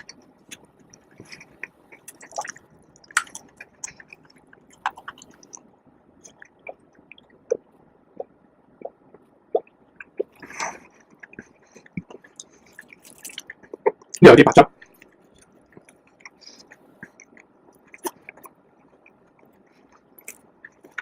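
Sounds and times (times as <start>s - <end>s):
person chewing food: 0.0s - 14.2s, 14.8s - 21.0s.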